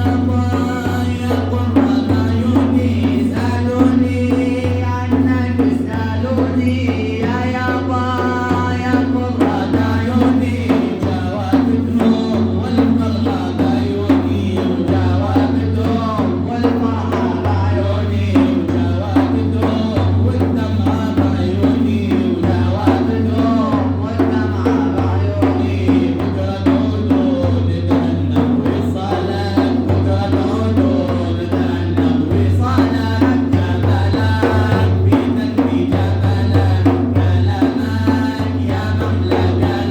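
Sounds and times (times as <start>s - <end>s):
man singing: 0.0s - 39.9s
steady drumming: 0.0s - 39.9s.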